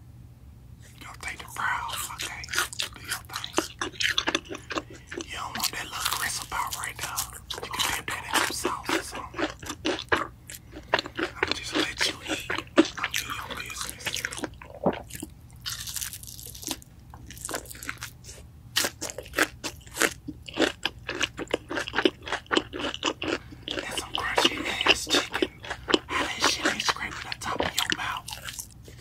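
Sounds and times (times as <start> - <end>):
crunching fried chicken: 1.0 - 29.0.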